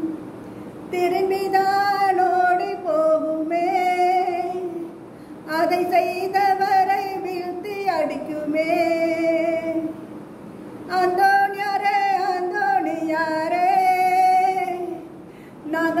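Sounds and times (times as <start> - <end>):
woman singing devotional song: 0.9 - 10.1, 10.9 - 16.0.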